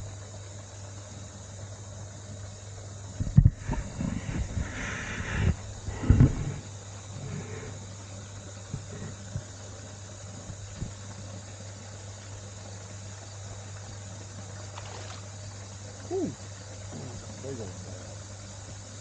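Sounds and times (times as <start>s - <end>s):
low hum: 0.0s - 17.3s
outdoor background hiss: 0.0s - 19.0s.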